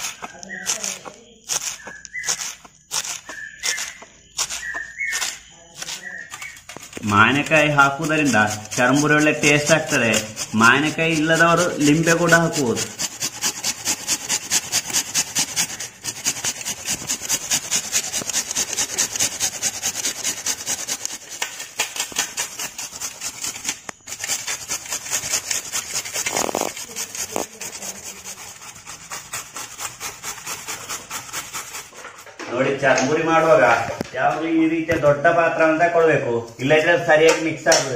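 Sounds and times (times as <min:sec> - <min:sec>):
grating on metal grater: 0:00.0 - 0:33.9.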